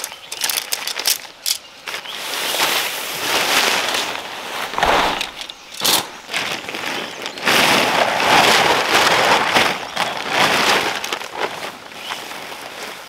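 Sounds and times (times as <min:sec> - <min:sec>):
tent fabric rustling: 0:02.0 - 0:13.0.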